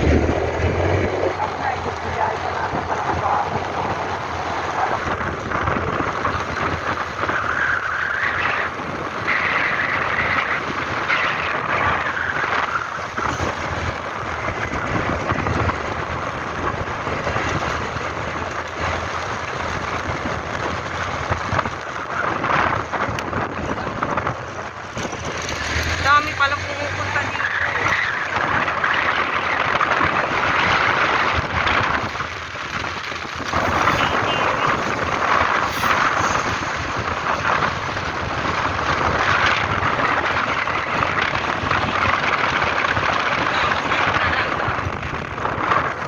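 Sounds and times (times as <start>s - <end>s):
road and engine noise: 0.0s - 46.0s
wind buffeting microphone: 0.0s - 46.0s.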